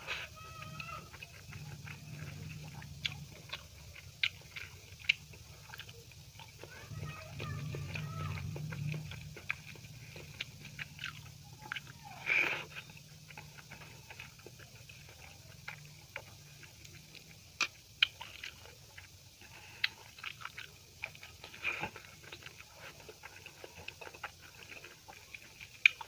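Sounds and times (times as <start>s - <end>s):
chewing mouth sounds: 0.0s - 26.0s.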